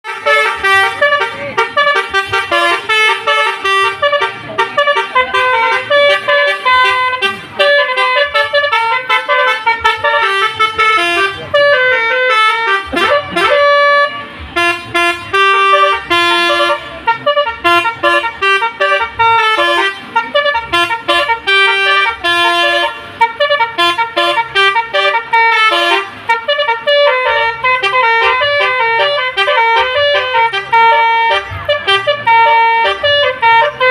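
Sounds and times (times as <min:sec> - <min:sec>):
multi-tone bus horn tune: 0:00.0 - 0:33.9.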